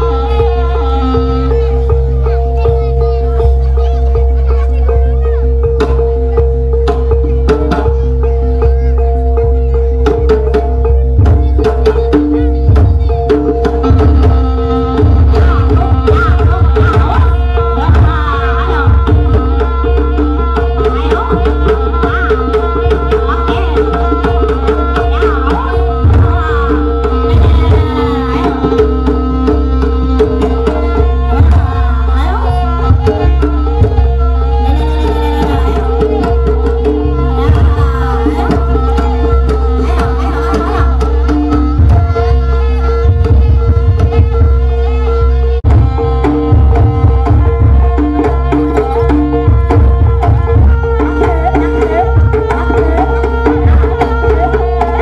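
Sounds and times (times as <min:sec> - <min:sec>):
gamelan ensemble dance music: 0:00.0 - 0:55.0
fast hand drum strokes: 0:10.0 - 0:55.0.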